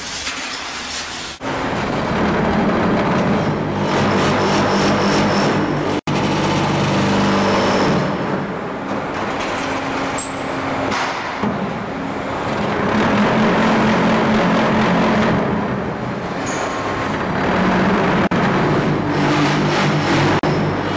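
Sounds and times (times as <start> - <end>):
block making machine running: 1.4 - 20.9.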